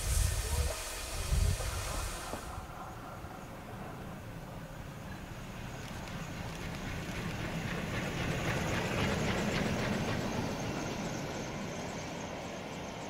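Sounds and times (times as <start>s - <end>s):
steam train approaching: 0.0s - 13.0s.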